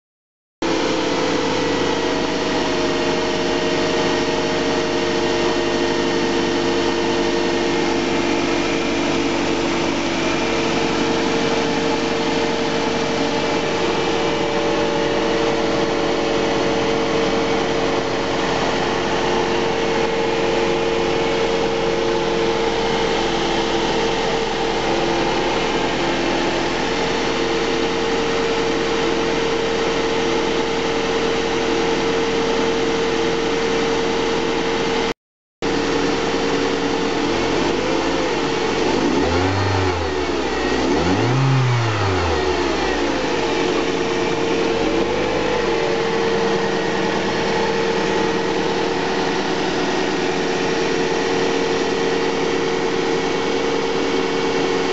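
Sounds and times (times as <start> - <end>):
car engine idling: 0.6 - 54.9.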